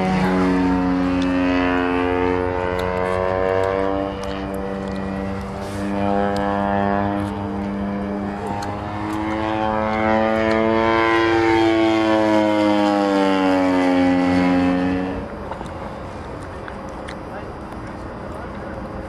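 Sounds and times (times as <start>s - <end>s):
model plane engine flying overhead: 0.0s - 19.0s.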